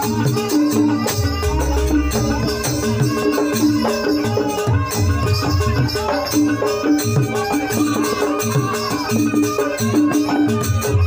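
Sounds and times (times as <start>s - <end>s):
drum strokes: 0.0s - 11.0s
metallic gamelan notes: 0.0s - 11.0s
rattling shaken percussion: 0.0s - 11.0s.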